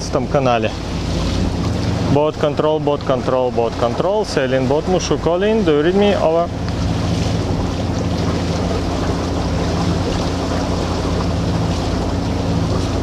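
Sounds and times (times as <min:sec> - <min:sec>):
diesel engine droning: 0:00.0 - 0:13.0
rushing water: 0:00.0 - 0:13.0.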